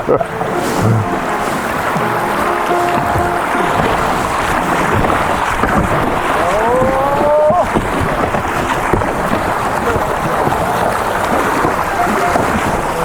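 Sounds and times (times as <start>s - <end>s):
river water rushing and splashing: 0.0s - 13.0s
wind on microphone: 0.0s - 13.0s.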